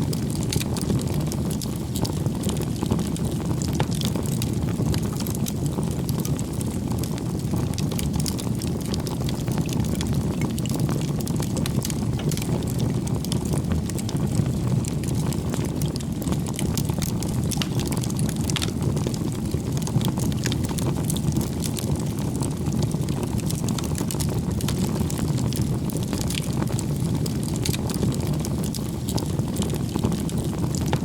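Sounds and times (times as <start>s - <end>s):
bonfire flames rumbling: 0.0s - 31.0s
fire crackles and pops: 0.0s - 31.0s.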